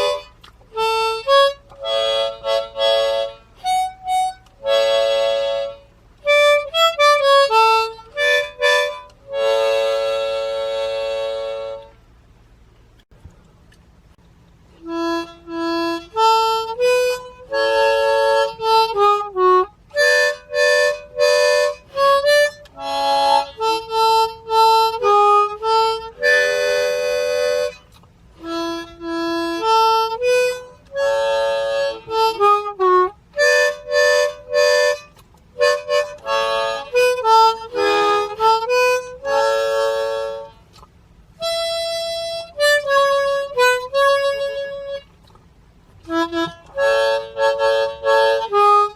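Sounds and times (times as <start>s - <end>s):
harmonica playing folk tune: 0.0s - 12.1s, 14.7s - 48.9s.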